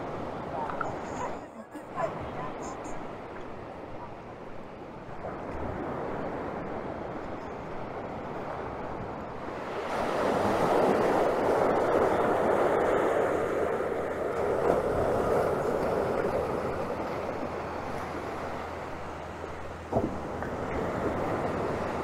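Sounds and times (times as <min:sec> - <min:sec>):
waves breaking on sand: 0:00.0 - 0:22.0.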